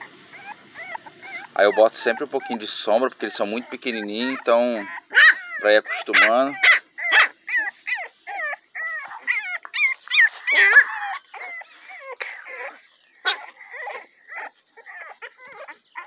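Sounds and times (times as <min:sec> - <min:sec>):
puppies whining and yelping: 0:00.0 - 0:16.0.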